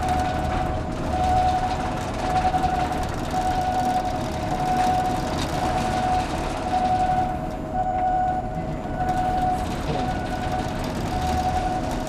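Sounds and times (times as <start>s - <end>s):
construction lift running: 0.0s - 12.0s.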